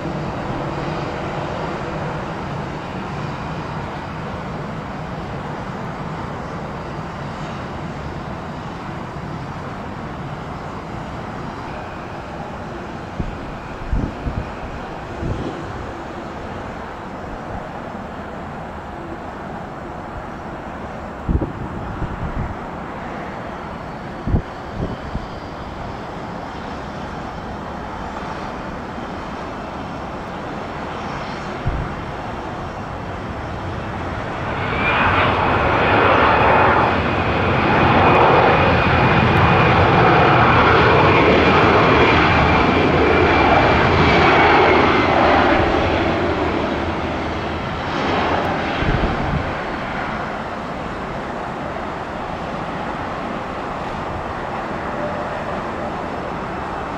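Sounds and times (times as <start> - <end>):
jet engines passing with high whine: 0.0 - 56.9.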